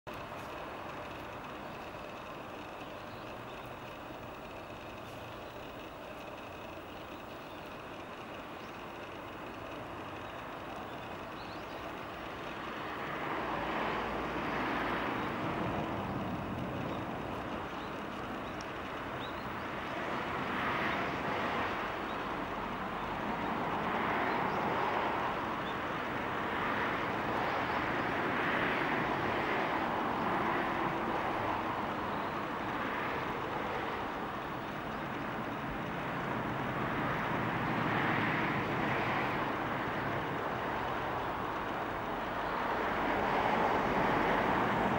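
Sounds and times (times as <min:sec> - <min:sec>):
distant vehicles rushing hum: 0:00.0 - 0:44.9.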